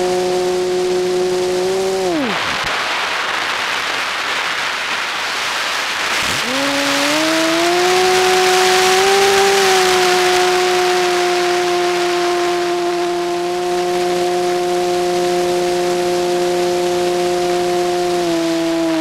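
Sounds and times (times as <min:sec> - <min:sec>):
model plane motor hum: 0:00.0 - 0:02.7, 0:06.1 - 0:19.0.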